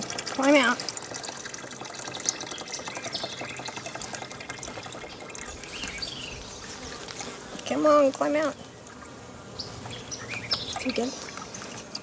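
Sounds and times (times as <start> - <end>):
water sloshing and trickling: 0.0 - 9.1, 9.8 - 12.0.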